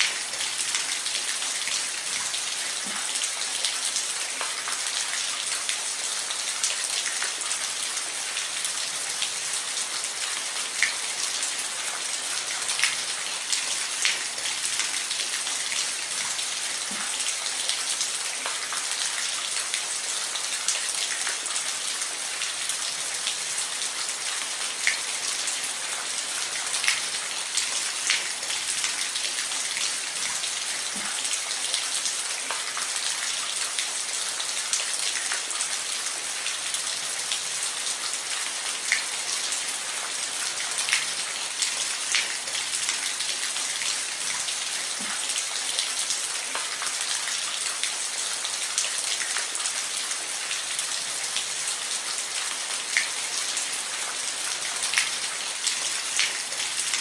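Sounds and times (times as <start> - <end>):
rain falling on a roof: 0.0 - 57.0.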